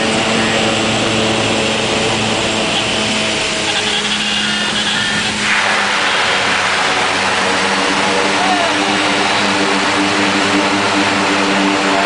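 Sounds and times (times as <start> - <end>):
light aircraft engine droning: 0.0 - 12.0
airflow rushing past cabin: 0.1 - 12.0.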